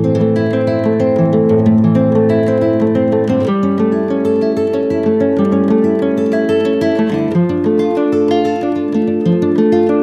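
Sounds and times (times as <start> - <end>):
plucked melody background music: 0.0 - 10.0.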